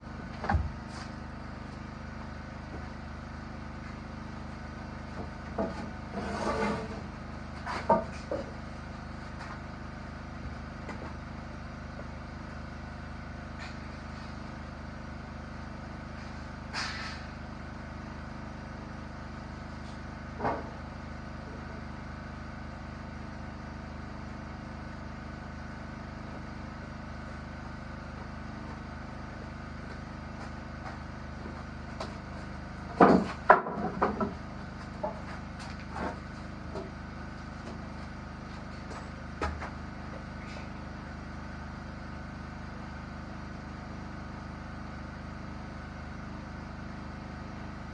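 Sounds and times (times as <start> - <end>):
steady machine hum: 0.0 - 47.9.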